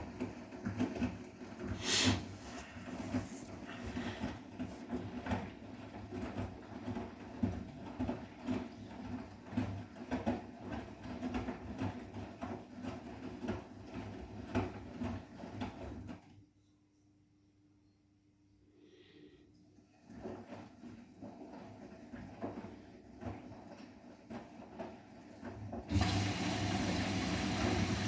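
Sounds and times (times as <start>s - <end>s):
laundry tumbling and knocking: 0.0s - 16.3s, 20.0s - 28.0s
washing machine motor hum: 0.0s - 16.3s, 19.6s - 28.0s.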